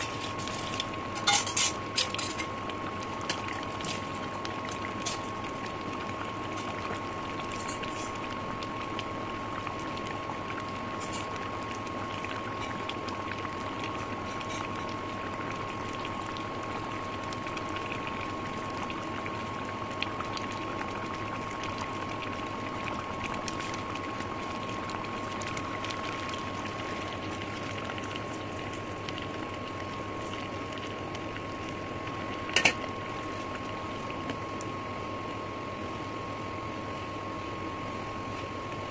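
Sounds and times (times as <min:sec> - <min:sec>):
curry bubbling in a pot: 0:00.0 - 0:38.9.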